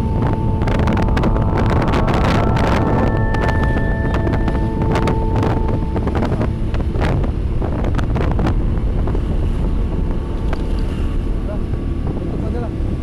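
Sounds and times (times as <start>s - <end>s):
steady pitched tone: 0.0s - 12.5s
low rumble of traffic: 0.0s - 13.0s
wind buffeting microphone: 0.0s - 13.0s.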